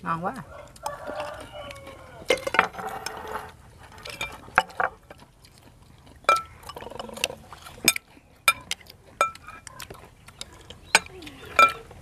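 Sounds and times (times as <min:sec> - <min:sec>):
chopsticks clinking on bowls: 0:00.6 - 0:05.2, 0:06.1 - 0:12.0.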